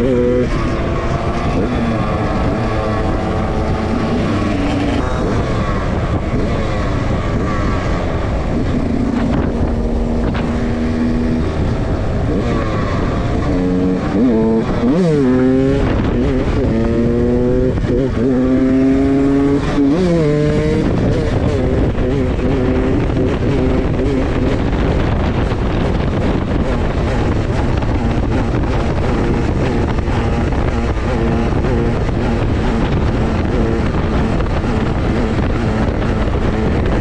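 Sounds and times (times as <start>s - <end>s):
motorcycle engine revving: 0.0s - 37.0s
motorcycle engines running: 0.0s - 37.0s.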